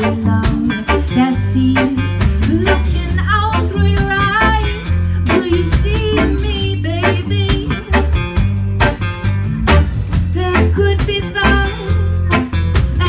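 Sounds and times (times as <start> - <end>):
drum kit beat: 0.0 - 13.0
electric bass: 0.0 - 13.0
electric guitars: 0.0 - 13.0.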